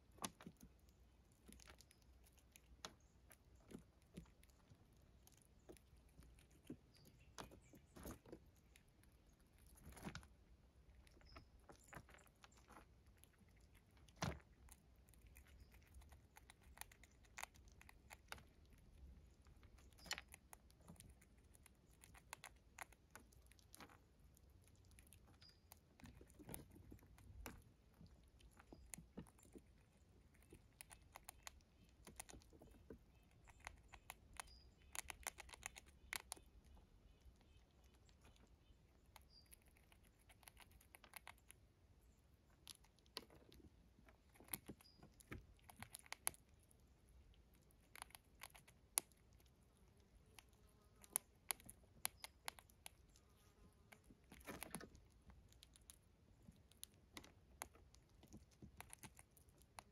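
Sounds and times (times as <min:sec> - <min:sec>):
squirrel chewing corn: 0:00.0 - 0:59.9.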